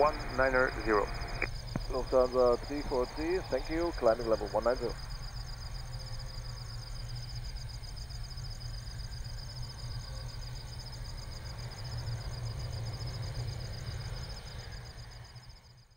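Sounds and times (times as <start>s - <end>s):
steady low rumble: 0.0s - 15.6s
crickets trilling: 0.0s - 15.9s.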